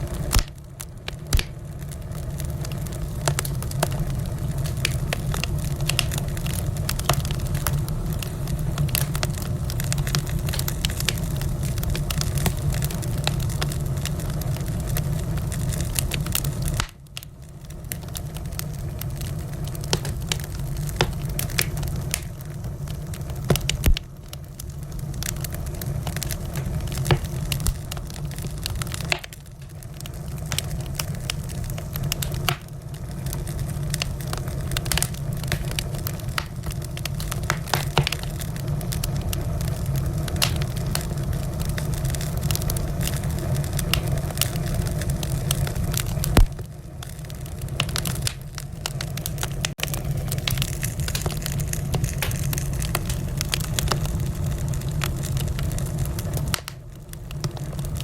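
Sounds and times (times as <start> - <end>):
wood fire burning in fireplace: 0.0 - 58.0.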